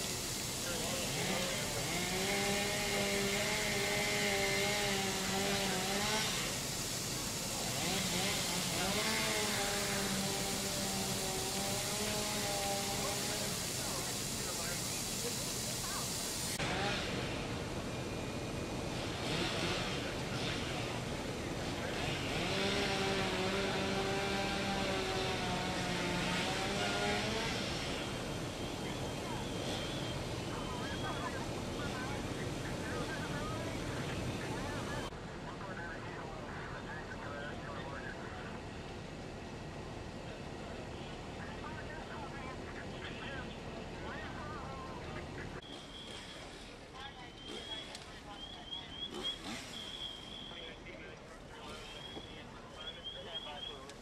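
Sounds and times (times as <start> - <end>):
fire burning with rushing noise: 0.0 - 46.9
engine running: 0.0 - 54.0.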